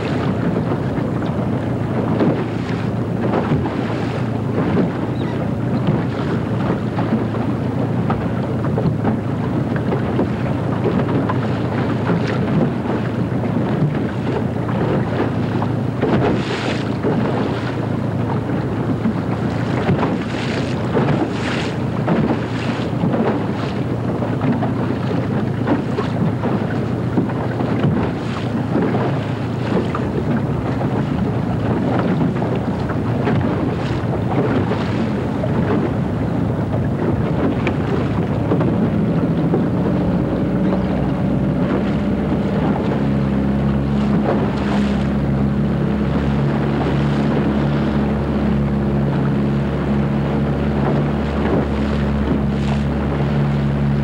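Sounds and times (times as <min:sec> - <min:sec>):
water rushing: 0:00.0 - 0:54.0
water swishes: 0:00.0 - 0:54.0
wind buffeting microphone: 0:00.0 - 0:54.0.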